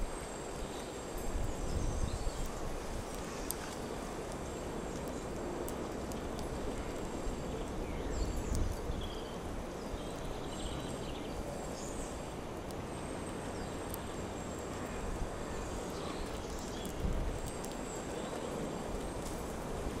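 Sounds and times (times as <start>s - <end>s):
songbird chirps: 0.0s - 20.0s.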